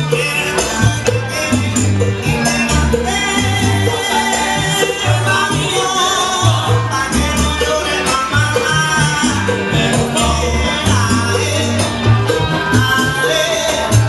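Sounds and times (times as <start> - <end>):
salsa music: 0.0 - 14.0.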